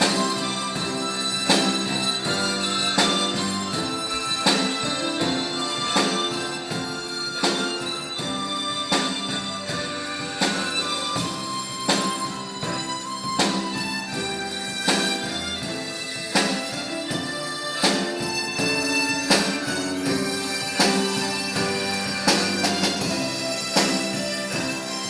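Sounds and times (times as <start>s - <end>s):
harmonica ensemble playing: 0.0s - 25.0s
sharp beat: 0.0s - 25.0s.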